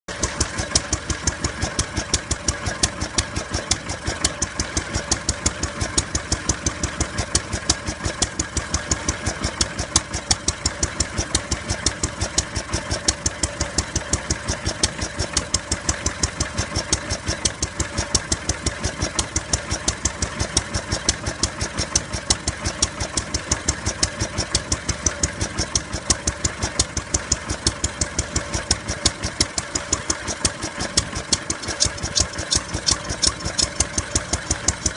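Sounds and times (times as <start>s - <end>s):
stationary engine running: 0.1s - 34.9s.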